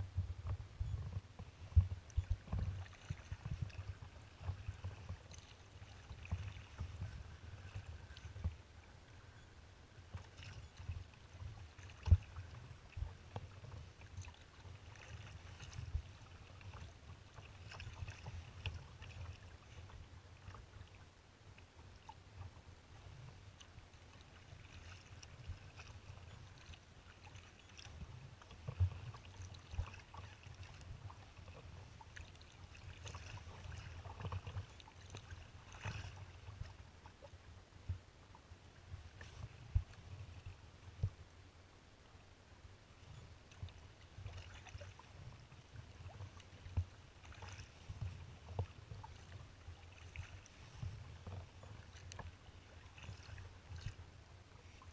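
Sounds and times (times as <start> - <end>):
paddle splashing water: 0.0 - 42.0, 42.6 - 54.9
water lapping at hull: 0.0 - 54.9.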